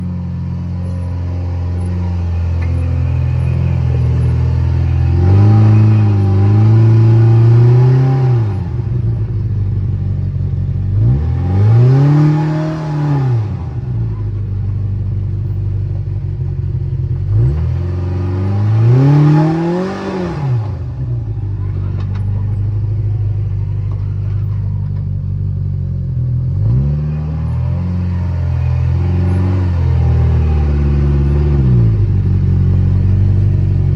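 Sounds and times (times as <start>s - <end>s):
off-road vehicle engine revving: 0.0s - 33.9s.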